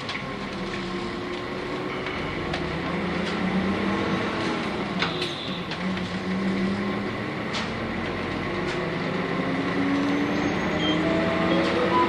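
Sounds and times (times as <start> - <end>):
bus engine accelerating: 0.0 - 12.0.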